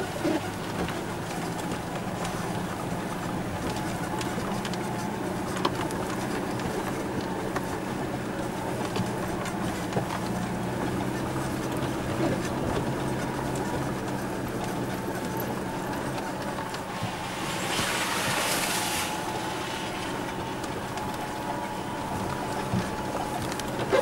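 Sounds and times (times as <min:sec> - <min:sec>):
engine running at low speed: 0:00.0 - 0:24.0.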